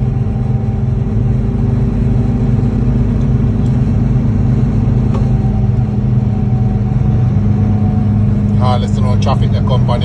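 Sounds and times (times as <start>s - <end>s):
car engine and tyre drone: 0.0s - 10.0s.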